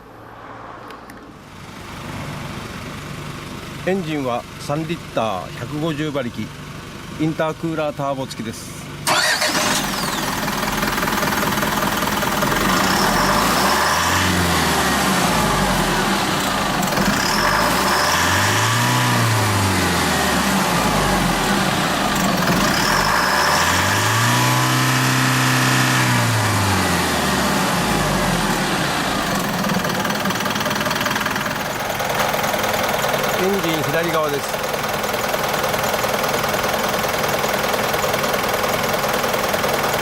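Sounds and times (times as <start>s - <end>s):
diesel truck engine idling and revving: 0.0s - 40.0s.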